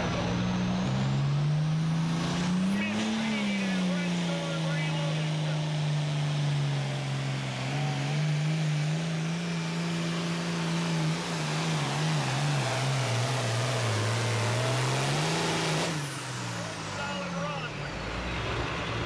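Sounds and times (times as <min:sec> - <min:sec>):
tractor diesel engine roaring: 0:00.0 - 0:19.0.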